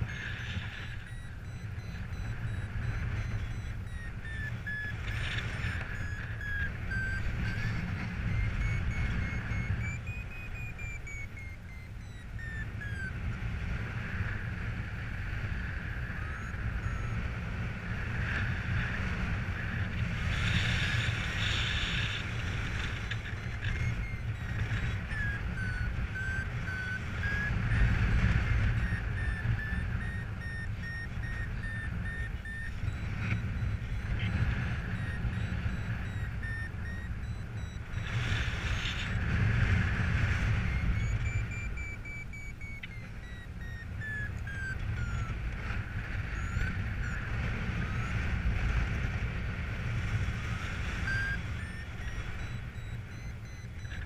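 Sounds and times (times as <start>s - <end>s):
variometer beeping: 0.0s - 54.0s.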